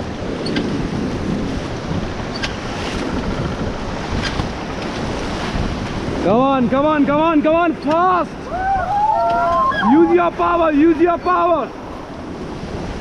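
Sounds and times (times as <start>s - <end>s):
wind buffeting microphone: 0.0s - 13.0s
white-water rapids rushing: 1.5s - 13.0s.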